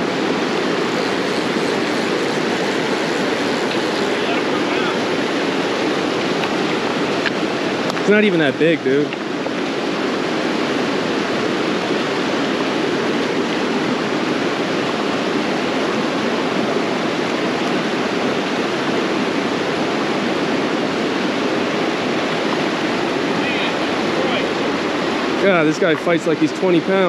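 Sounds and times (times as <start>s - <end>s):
river water rushing over rocks: 0.0s - 27.0s.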